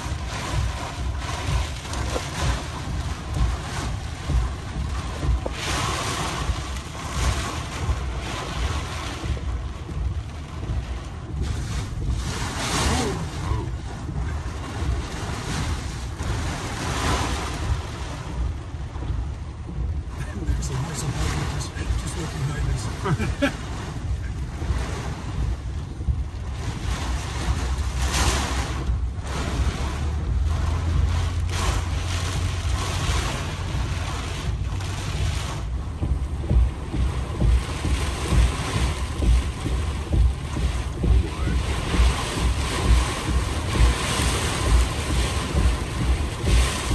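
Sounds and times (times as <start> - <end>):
wind-driven rain: 0.0 - 46.9.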